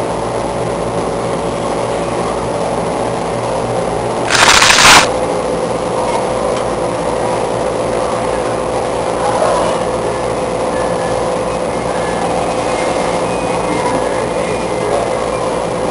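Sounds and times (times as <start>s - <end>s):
fan machinery drone: 0.0s - 15.9s.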